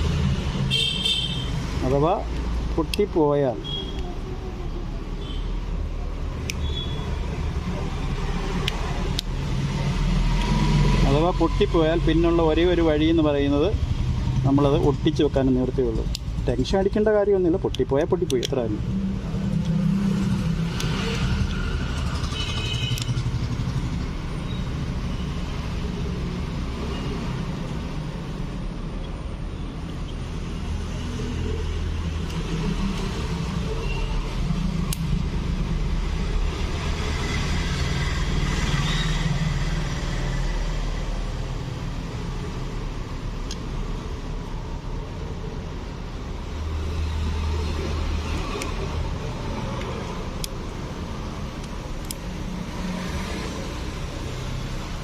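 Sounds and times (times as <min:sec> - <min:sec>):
low rumble of road vehicles: 0:00.0 - 0:55.0.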